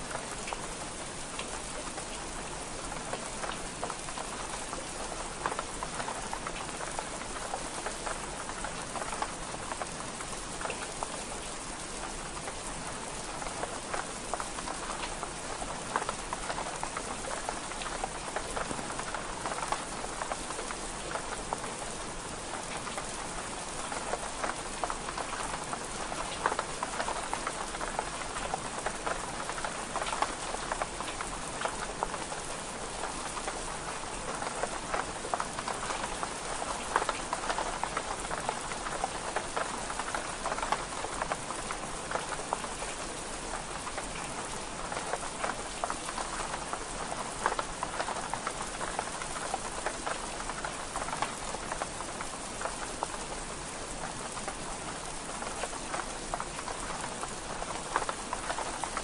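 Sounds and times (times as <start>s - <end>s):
rain pattering on window glass: 0.0s - 59.0s.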